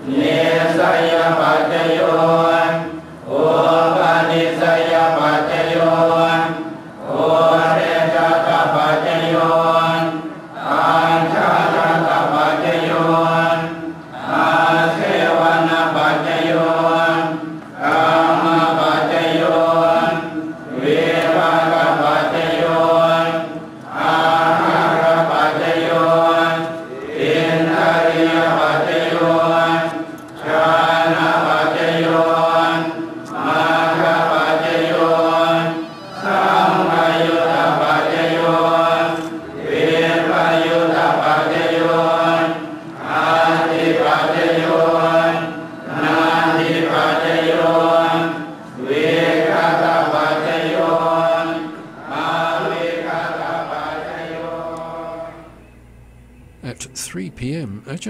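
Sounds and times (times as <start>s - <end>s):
slow chanting on held tones: 0.0s - 58.0s.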